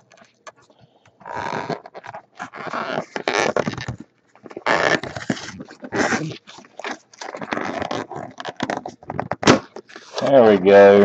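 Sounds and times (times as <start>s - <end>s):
cardboard box scraping: 1.2s - 10.3s.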